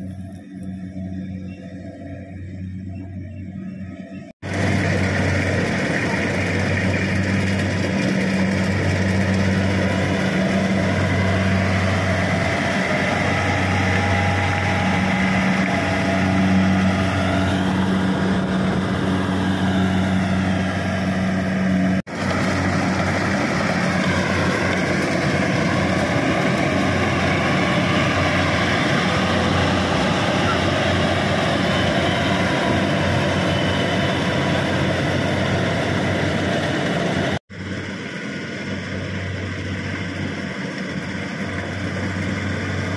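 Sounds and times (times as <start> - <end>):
combine harvester engine humming: 0.0 - 42.9.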